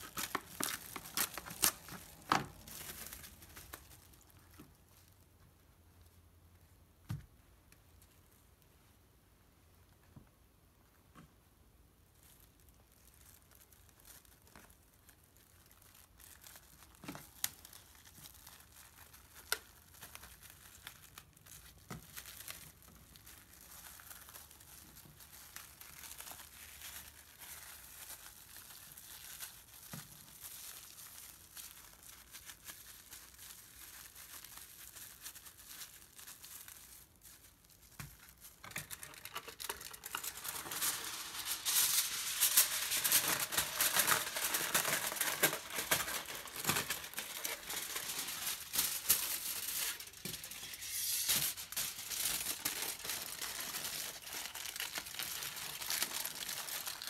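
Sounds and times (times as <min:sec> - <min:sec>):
cling wrap crinkling: 0:00.0 - 0:06.3, 0:12.0 - 0:57.0.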